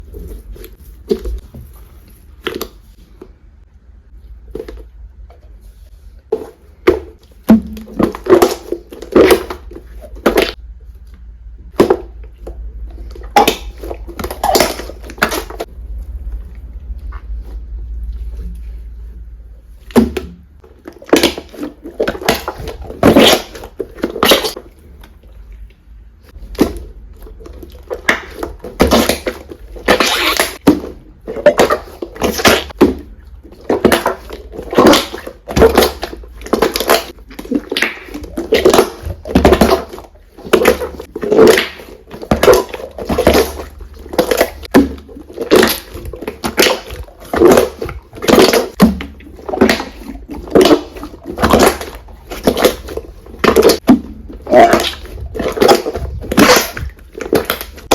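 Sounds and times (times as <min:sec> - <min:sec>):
wet slime squelching: 0:00.0 - 0:57.9.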